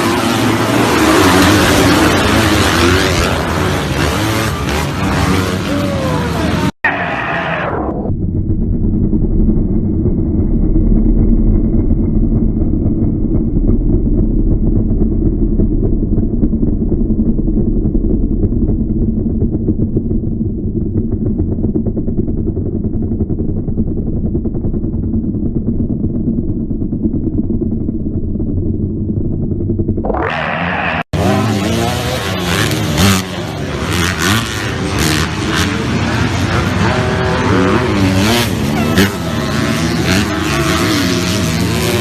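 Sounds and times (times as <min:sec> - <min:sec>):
motorcycle engine running: 0:00.0 - 0:06.7, 0:08.1 - 0:42.0.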